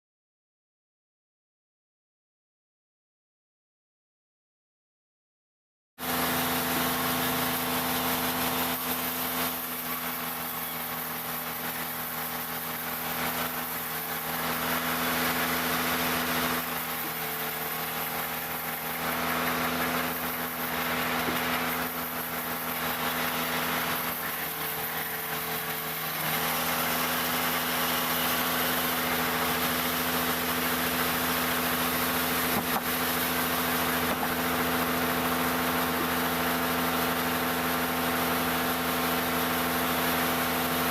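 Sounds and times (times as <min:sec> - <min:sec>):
sawmill engine running: 0:06.0 - 0:40.9.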